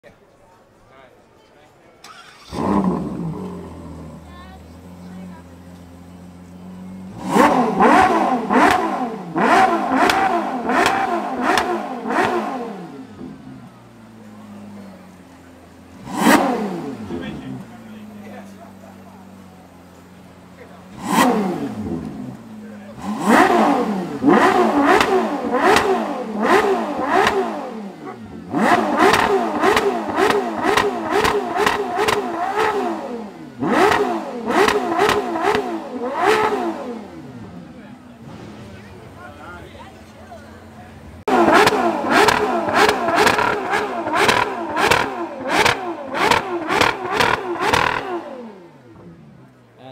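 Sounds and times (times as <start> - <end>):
car engine idling and revving: 2.0 - 49.9.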